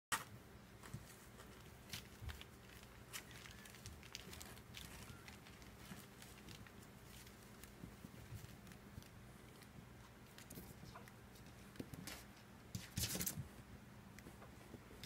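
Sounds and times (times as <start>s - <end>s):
faint steady hum: 0.2s - 15.0s.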